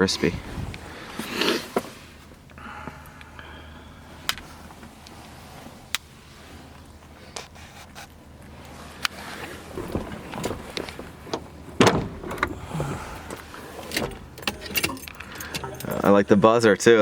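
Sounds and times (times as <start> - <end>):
handling noise in a car cabin: 0.0 - 3.4, 4.0 - 16.3.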